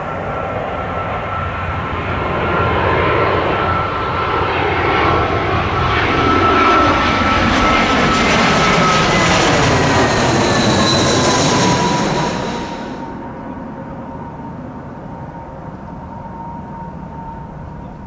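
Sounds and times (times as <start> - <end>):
jet engine rumble and whine: 0.0 - 18.0.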